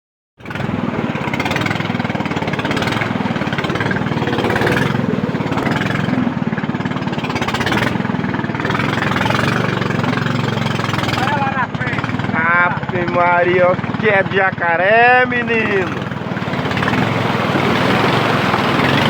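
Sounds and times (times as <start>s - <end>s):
small boat motor running: 0.4s - 19.0s.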